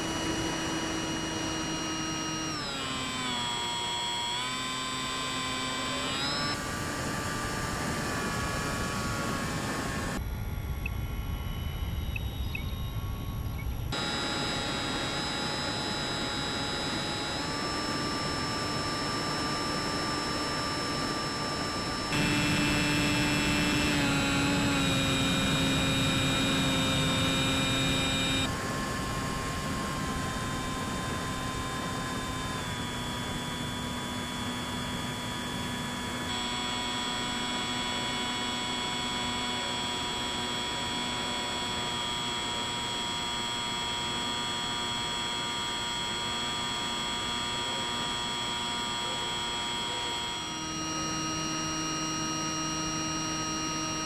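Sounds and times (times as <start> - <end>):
electric motor and propeller whining: 0.0 - 54.0.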